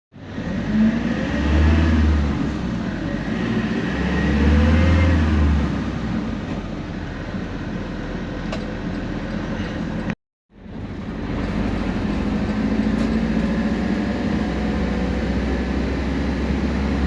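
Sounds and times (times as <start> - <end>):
bus engine drone: 0.1 - 17.0.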